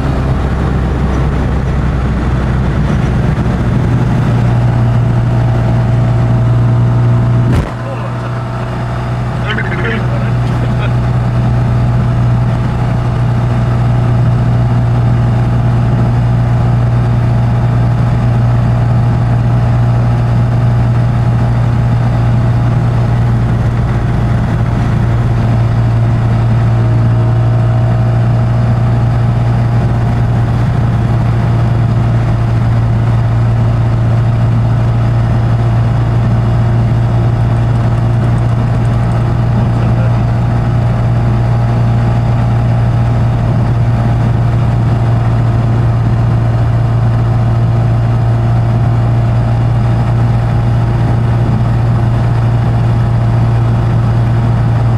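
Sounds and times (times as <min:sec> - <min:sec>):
car engine droning from inside: 0:00.0 - 0:54.9.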